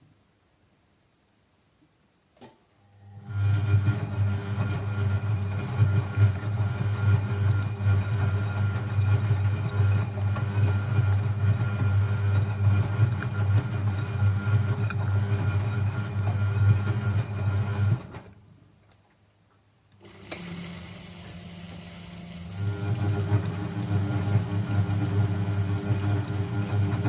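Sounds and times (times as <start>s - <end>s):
washing machine motor hum: 2.9s - 18.3s, 20.0s - 27.0s.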